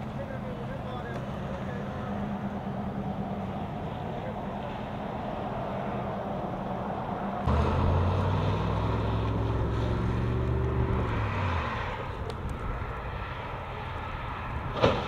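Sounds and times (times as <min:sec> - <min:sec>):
traffic and wind rushing: 0:00.0 - 0:15.0
vehicle engine drone: 0:00.0 - 0:15.0.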